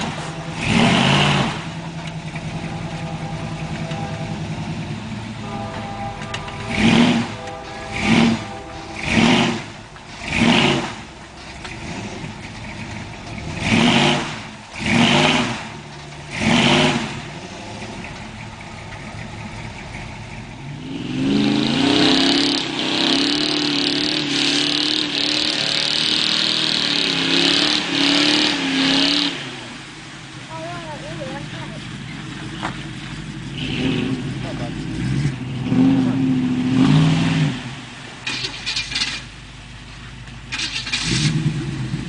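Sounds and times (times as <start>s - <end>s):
pickup truck engine revving: 0.0s - 42.0s.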